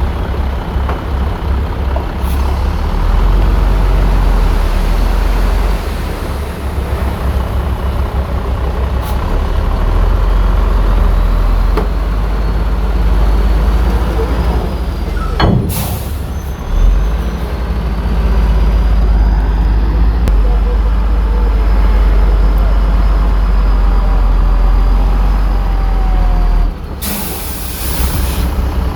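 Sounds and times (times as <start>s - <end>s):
heavy diesel machinery engine drone: 0.0s - 28.9s.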